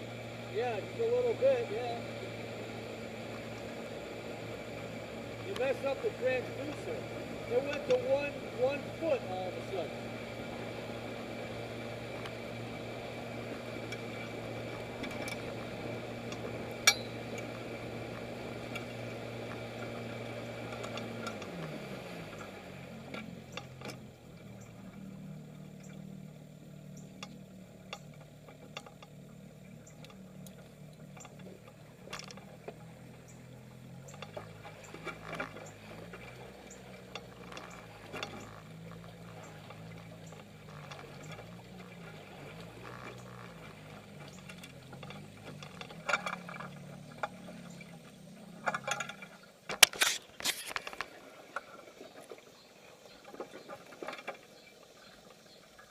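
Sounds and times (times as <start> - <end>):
outboard motor running: 0.0 - 55.9.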